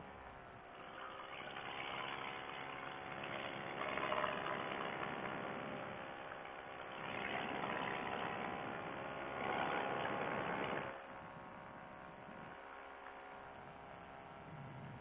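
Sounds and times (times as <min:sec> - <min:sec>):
paramotor engine running: 0:00.0 - 0:15.0.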